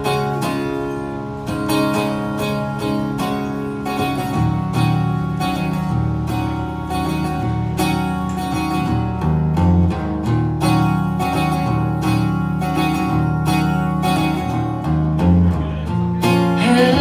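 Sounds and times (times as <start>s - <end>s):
acoustic guitar strumming: 0.0s - 17.0s
steady low bass notes: 0.0s - 17.0s.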